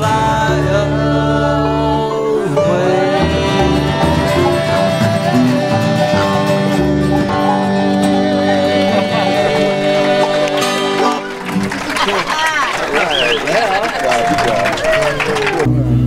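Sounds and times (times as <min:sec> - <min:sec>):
bluegrass band playing: 0:00.0 - 0:16.0.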